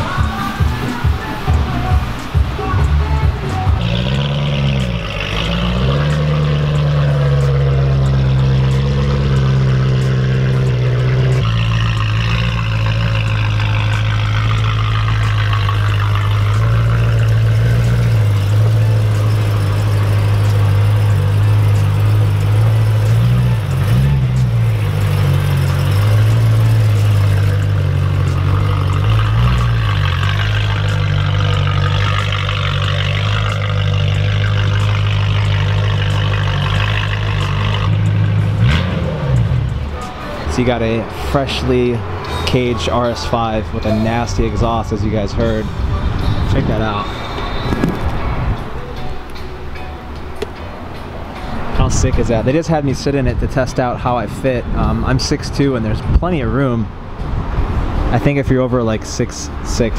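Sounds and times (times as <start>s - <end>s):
sports car exhaust droning: 0.0s - 59.9s.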